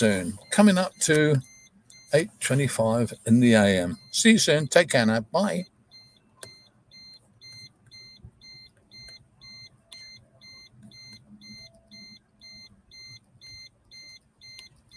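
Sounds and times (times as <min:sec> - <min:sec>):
high-pitched warning beeps: 0:00.0 - 0:14.9.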